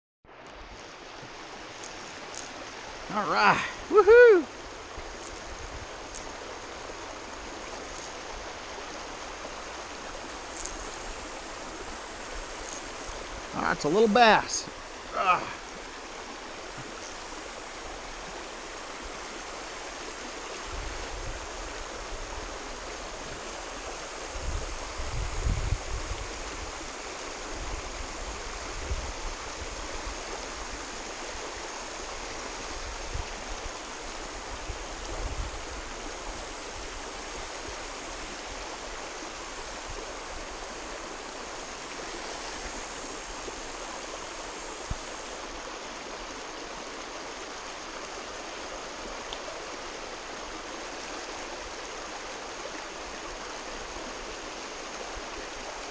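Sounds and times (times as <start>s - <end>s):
river running over rocks: 0.3s - 55.9s.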